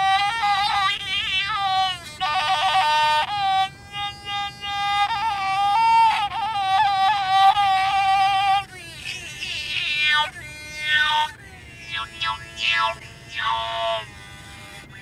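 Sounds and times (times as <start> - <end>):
bowed one-string fiddle melody: 0.0 - 15.0.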